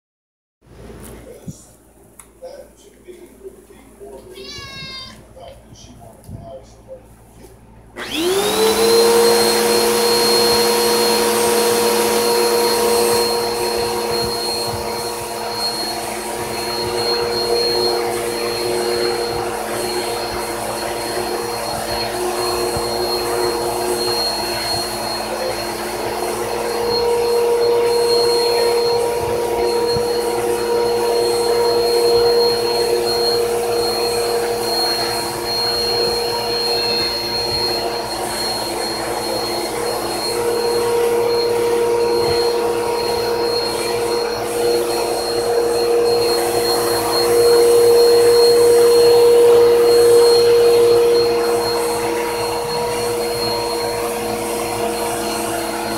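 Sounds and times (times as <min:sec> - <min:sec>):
vacuum cleaner running: 0:04.0 - 0:55.9.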